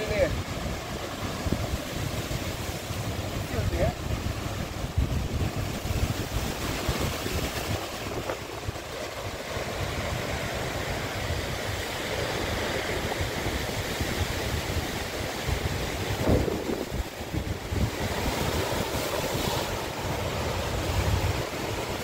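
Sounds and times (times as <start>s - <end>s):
heavy surf on rocky shore: 0.0s - 22.0s
wind buffeting microphone: 0.0s - 22.0s.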